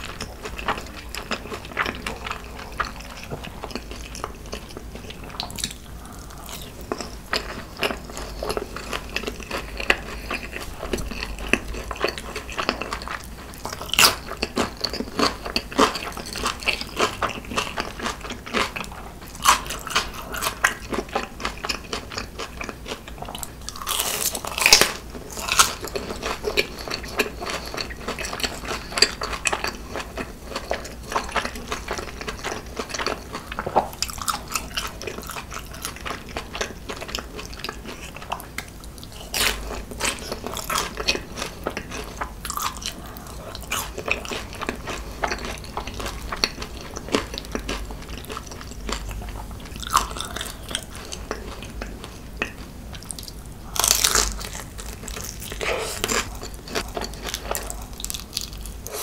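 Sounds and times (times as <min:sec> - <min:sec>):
crunching bites of fried food: 0:05.3 - 0:59.0.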